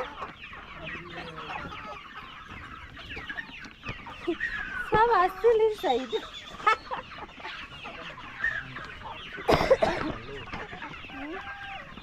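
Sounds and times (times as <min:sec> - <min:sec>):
young chickens clucking and peeping: 0:00.0 - 0:12.0.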